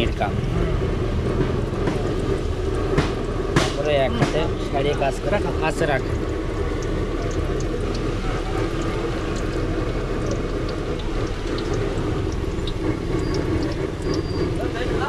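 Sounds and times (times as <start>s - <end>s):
gas burner noise: 0.0s - 15.0s
oil sizzling in a wok: 1.2s - 15.0s.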